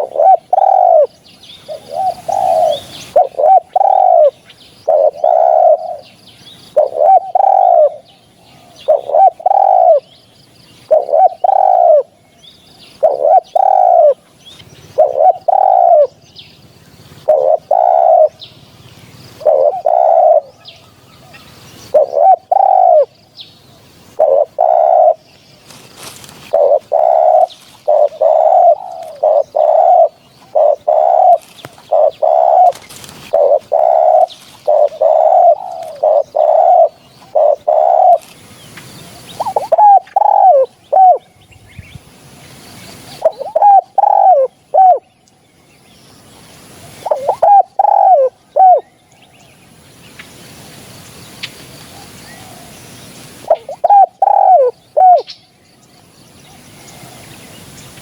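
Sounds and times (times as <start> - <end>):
doves cooing: 0.0 - 10.1, 10.8 - 12.2, 13.0 - 41.3, 42.9 - 45.1, 46.8 - 49.0, 51.9 - 55.4
small birds chirping: 0.0 - 58.0.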